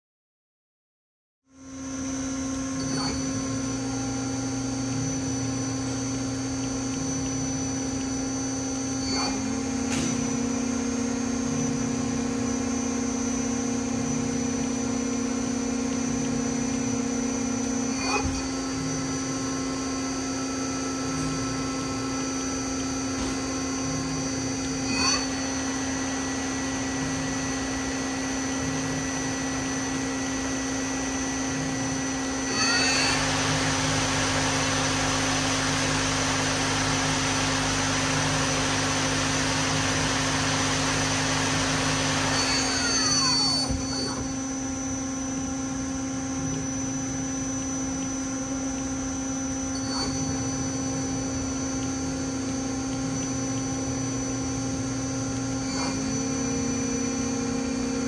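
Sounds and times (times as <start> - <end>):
steady machine hum: 1.5 - 58.0
lathe spindle whine and rush: 2.1 - 58.0.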